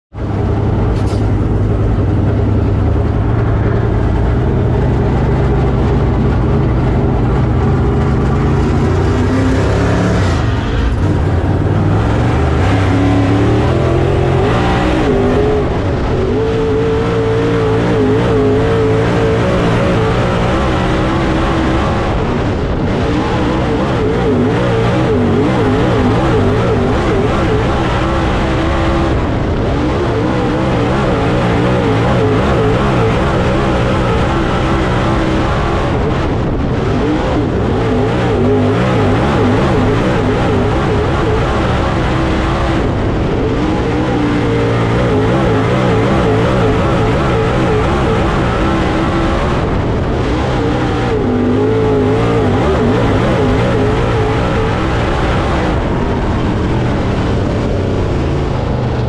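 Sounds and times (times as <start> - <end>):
race car engine revving: 0.1 - 59.0.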